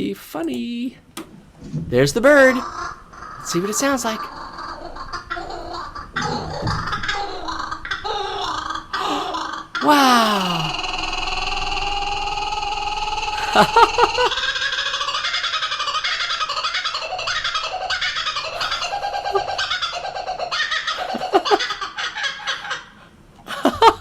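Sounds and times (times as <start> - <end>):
kookaburra laughing call: 2.3 - 24.0.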